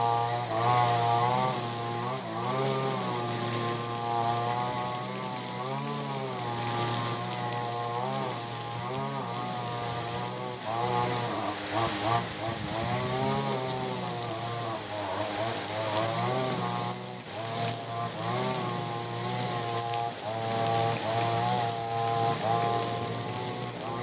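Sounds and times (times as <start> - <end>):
brush cutter engine cutting grass: 0.0 - 24.0
high hiss of trimmer line: 0.0 - 24.0.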